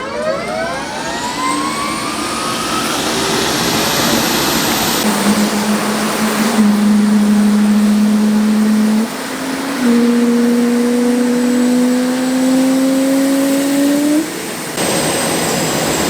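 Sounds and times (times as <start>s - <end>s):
jet turbine engine running: 0.0s - 16.0s.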